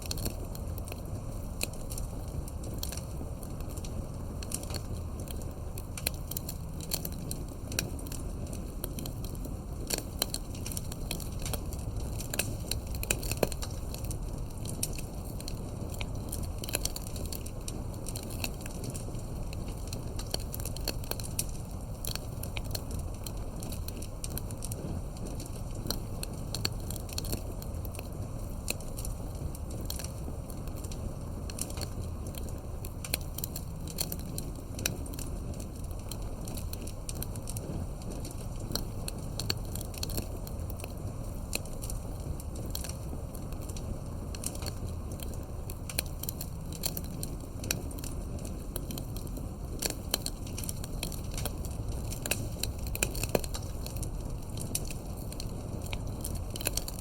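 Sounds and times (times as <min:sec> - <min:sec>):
campfire crackling: 0:00.0 - 0:57.0
steady low rumble: 0:00.0 - 0:57.0.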